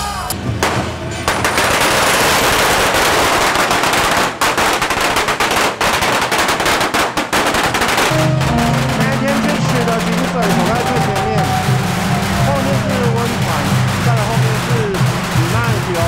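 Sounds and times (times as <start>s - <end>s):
firecrackers crackling: 0.3s - 16.0s.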